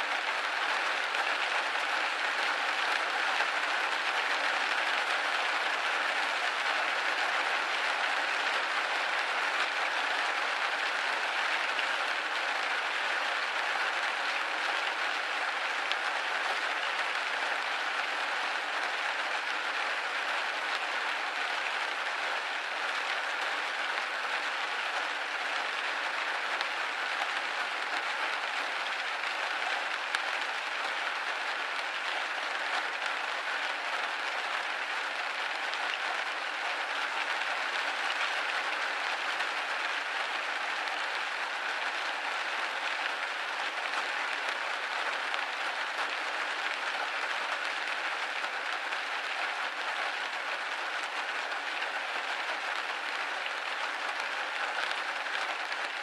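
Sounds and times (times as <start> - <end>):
rain pattering on a window: 0.0 - 56.0.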